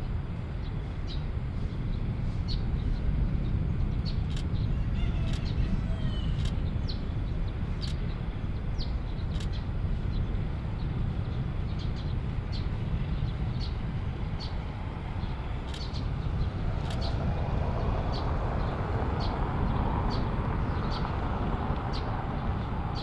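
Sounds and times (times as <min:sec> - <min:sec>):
distant jet engines rumbling: 0:00.0 - 0:23.0
small birds chirping: 0:00.5 - 0:23.0.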